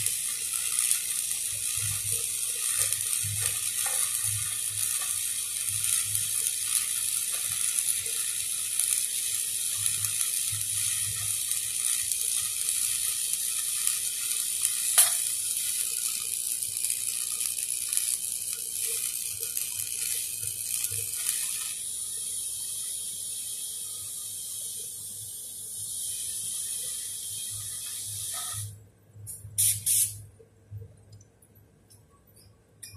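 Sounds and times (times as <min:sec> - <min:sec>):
welding arc crackling: 0:00.0 - 0:30.3.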